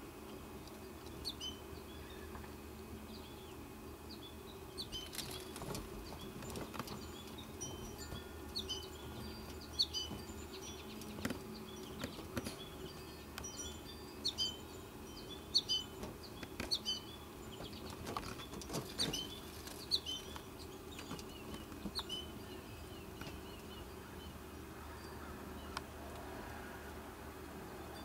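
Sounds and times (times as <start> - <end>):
goldfinch chirping: 1.1 - 2.4, 3.2 - 25.8.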